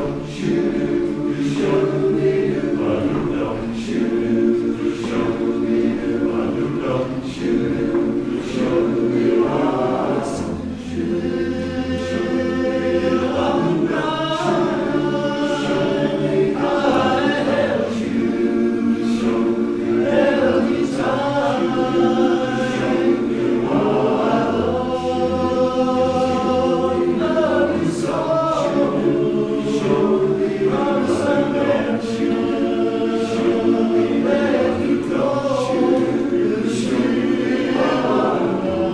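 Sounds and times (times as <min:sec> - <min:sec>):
barbershop chorus singing a cappella: 0:00.0 - 0:38.9.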